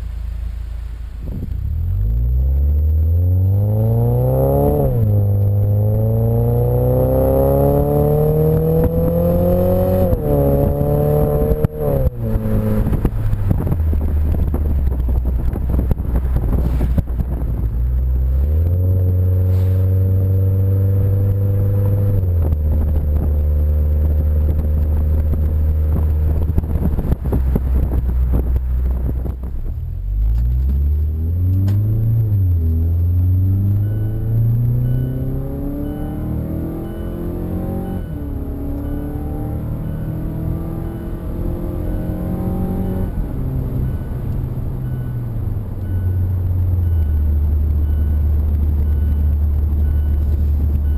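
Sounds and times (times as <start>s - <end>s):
car engine revving under load: 0.0s - 50.9s.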